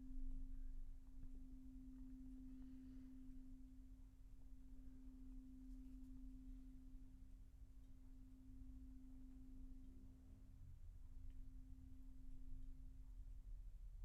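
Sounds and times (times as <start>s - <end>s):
soft pure tone drone: 0.0s - 14.0s.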